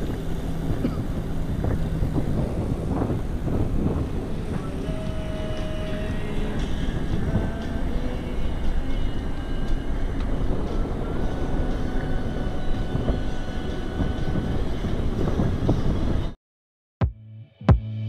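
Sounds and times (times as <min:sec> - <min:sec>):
car engine and road noise: 0:00.0 - 0:16.4.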